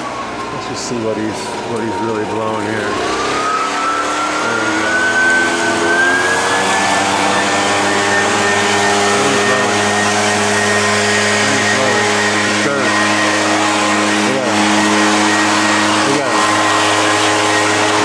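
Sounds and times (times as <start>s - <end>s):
leaf blower whining: 0.0s - 18.0s.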